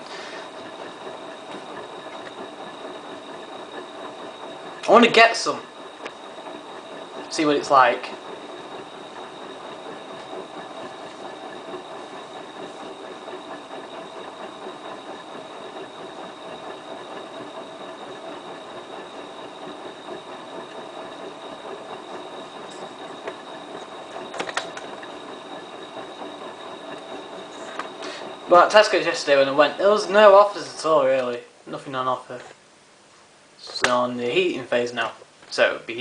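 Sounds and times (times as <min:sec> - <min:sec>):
washing machine running: 0:00.0 - 0:36.0.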